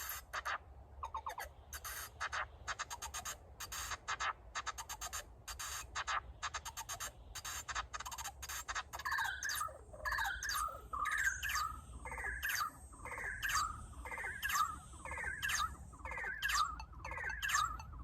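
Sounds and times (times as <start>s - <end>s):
synthesizer chirping notes: 1.0s - 18.0s.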